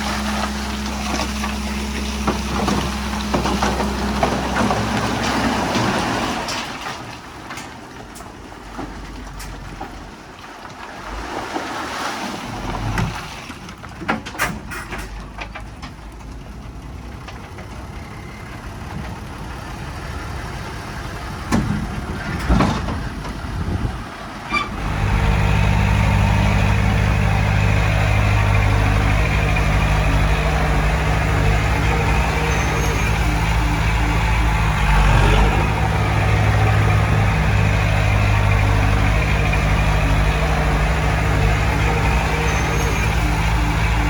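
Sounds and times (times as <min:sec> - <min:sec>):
diesel engine running: 0:00.0 - 0:06.8, 0:14.9 - 0:44.0.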